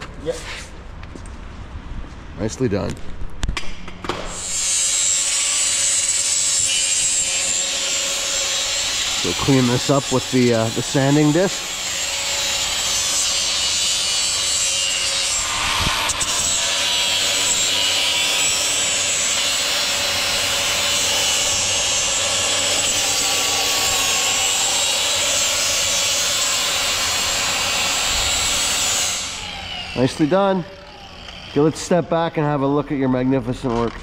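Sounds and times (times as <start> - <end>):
angle grinder grinding steel: 4.3 - 32.0.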